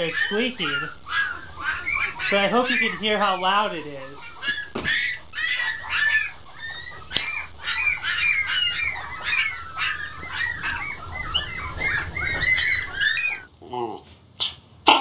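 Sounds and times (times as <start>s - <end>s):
puppies squeaking: 0.0s - 13.5s.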